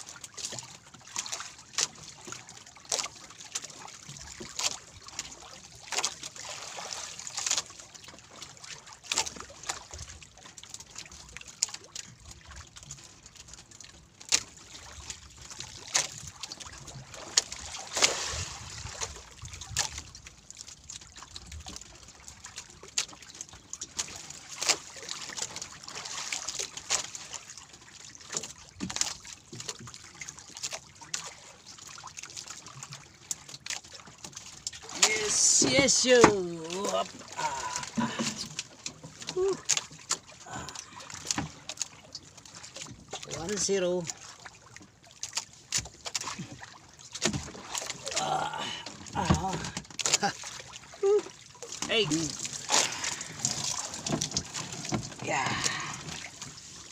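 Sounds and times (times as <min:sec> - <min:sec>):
sharp splashes and drips: 0:00.0 - 0:56.9
water sloshing against boat hull: 0:00.0 - 0:56.9.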